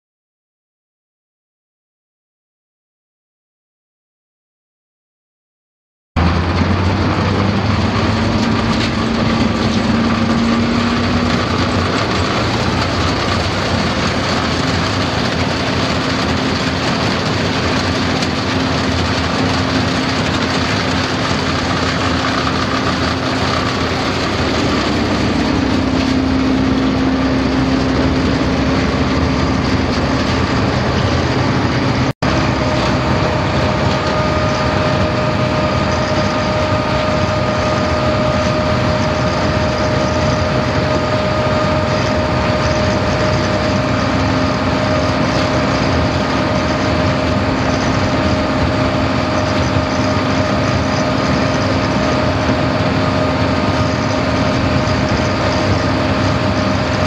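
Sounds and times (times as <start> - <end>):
high steady whine: 6.2 - 57.0
tub grinder machinery hum: 6.2 - 57.0.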